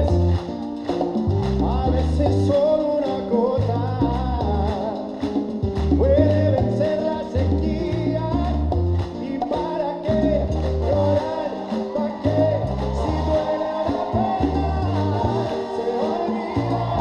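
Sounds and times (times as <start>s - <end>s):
latin-style song with singer: 0.0s - 17.0s.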